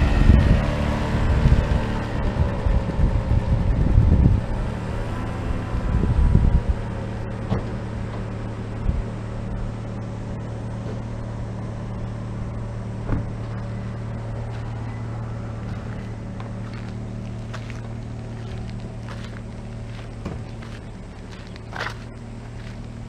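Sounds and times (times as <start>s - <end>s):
low mechanical hum: 0.0s - 23.0s
low rumbling: 0.0s - 23.0s.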